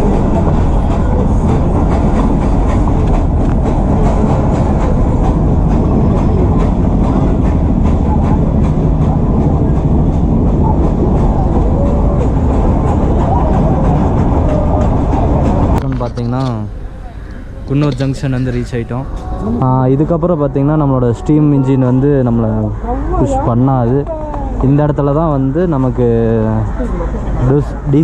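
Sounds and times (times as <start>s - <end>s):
train rumbling with rail clicks: 0.0s - 21.6s, 23.8s - 28.0s.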